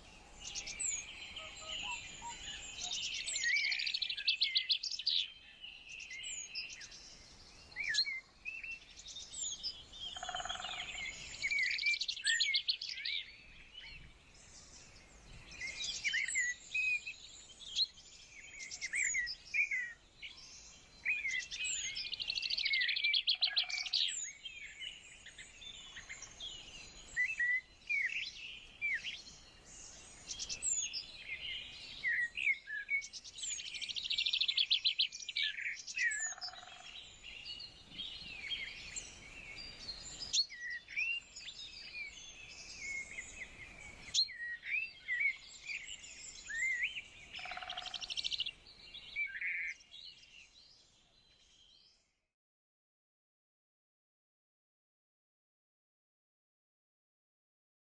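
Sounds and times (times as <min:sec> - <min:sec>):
songbirds singing: 0:00.0 - 0:52.2.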